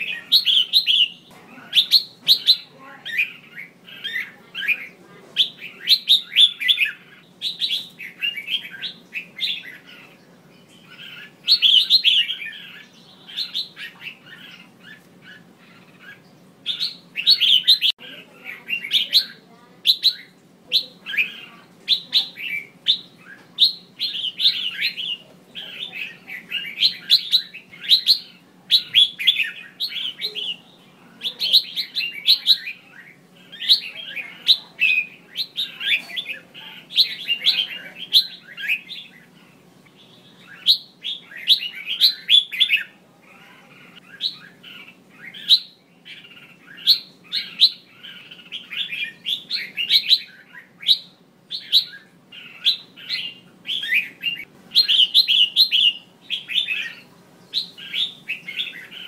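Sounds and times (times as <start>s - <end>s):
bird chattering call: 0.0s - 59.0s.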